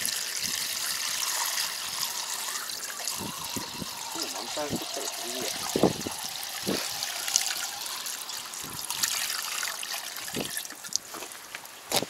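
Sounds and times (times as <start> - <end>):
water pouring into plastic tank: 0.0 - 11.5.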